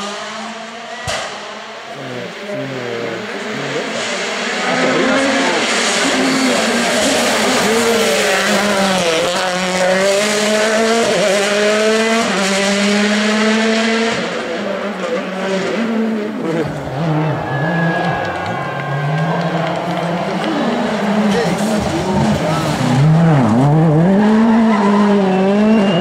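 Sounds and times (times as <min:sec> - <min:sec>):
rally car engine at full throttle: 0:00.0 - 0:26.0.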